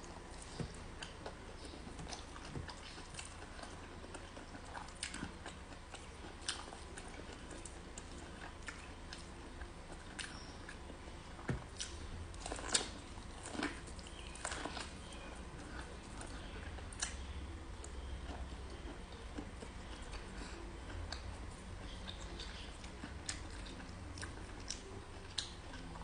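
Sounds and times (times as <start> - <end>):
person chewing corn on the cob: 0.0 - 26.0.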